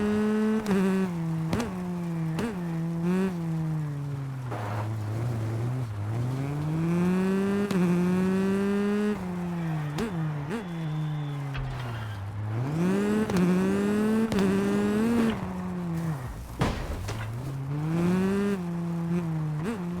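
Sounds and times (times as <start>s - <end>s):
car engine revving through gears: 0.0s - 20.0s.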